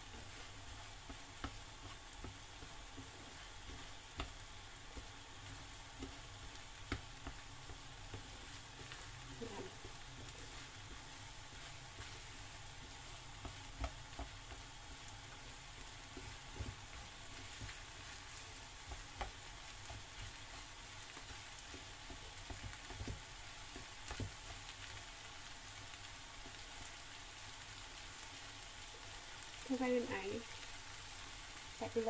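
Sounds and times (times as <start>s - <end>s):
food sizzling in frying pan: 0.0s - 32.0s.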